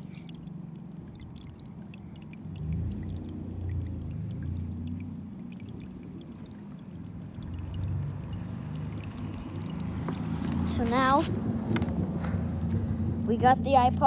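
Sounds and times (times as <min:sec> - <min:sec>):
water pouring: 0:00.0 - 0:13.3.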